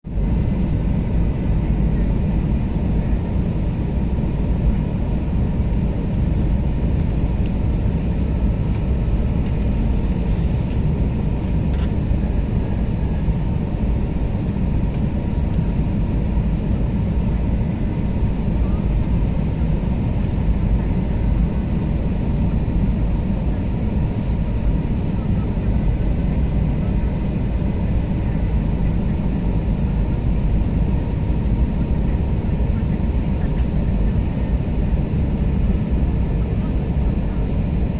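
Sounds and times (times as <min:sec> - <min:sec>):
airliner cabin rumble: 0:00.1 - 0:37.9.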